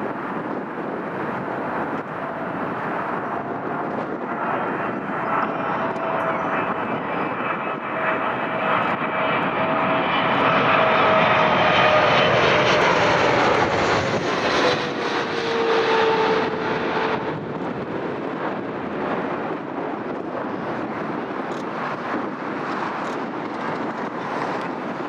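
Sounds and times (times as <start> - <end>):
jet engine whine falling in pitch: 0.0 - 25.0
jet engines roaring: 0.0 - 25.0.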